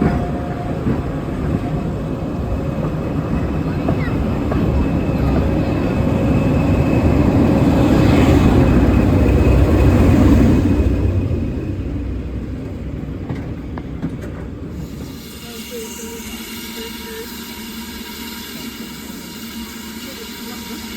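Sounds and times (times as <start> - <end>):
passing train rumble: 0.0 - 20.9.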